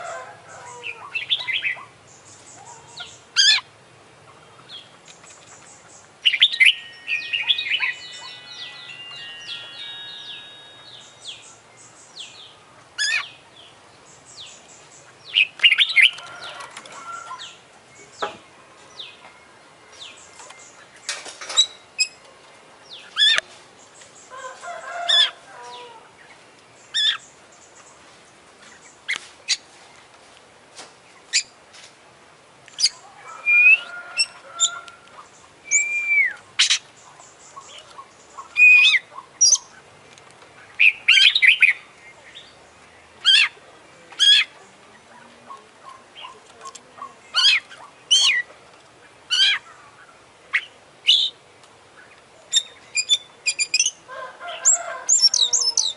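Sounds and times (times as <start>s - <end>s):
bird singing varied song: 0.0s - 30.1s, 32.7s - 55.9s.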